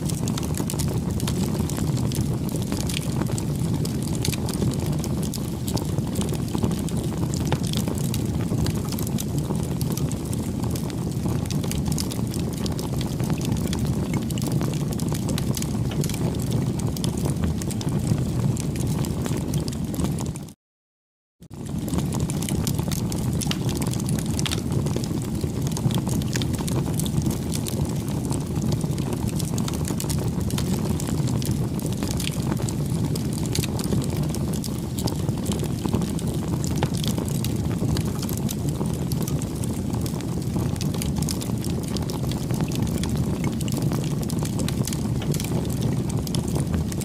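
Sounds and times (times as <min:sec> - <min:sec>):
low rush of flame: 0:00.0 - 0:20.5, 0:21.5 - 0:47.0
bonfire crackling and popping: 0:00.0 - 0:20.6, 0:21.4 - 0:47.0.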